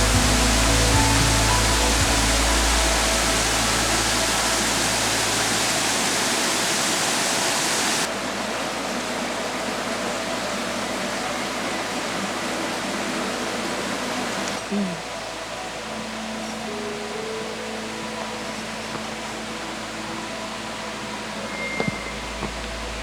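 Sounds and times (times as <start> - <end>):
background music: 0.0 - 6.6, 9.4 - 23.0
stream water rushing: 0.0 - 23.0.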